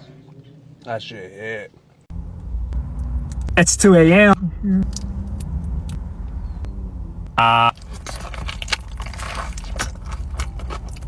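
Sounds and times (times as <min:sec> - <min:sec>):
steady low rumble: 0:02.1 - 0:11.0.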